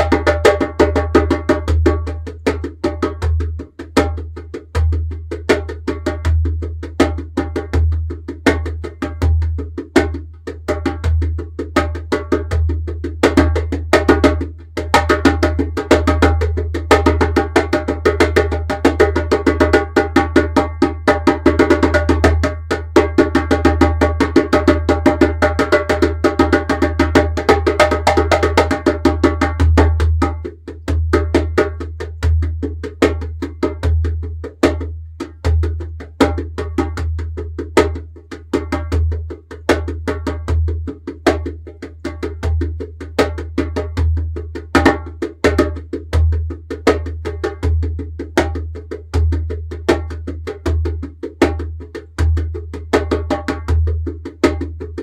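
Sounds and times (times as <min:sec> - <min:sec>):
djembe played by hand: 0:00.0 - 0:55.0.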